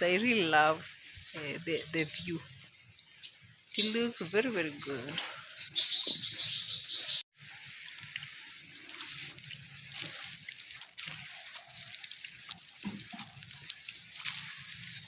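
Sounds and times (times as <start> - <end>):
water trickling and splashing: 0.0 - 6.2, 7.3 - 15.0.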